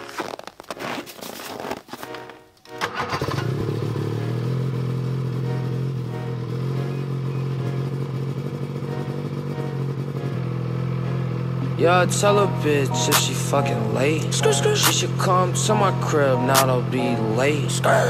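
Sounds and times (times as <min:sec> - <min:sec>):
snowmobile engine starting and idling: 0:02.7 - 0:18.0.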